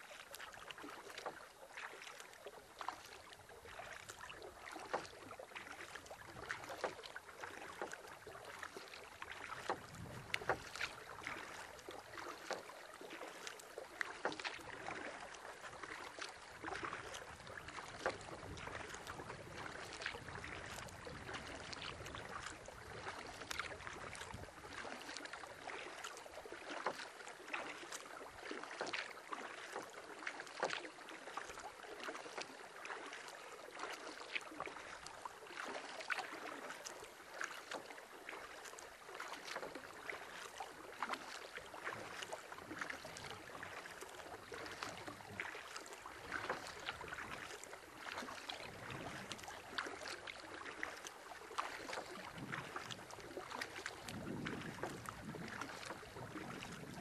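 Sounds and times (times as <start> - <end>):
paddle splashes and drips: 0.0 - 57.0.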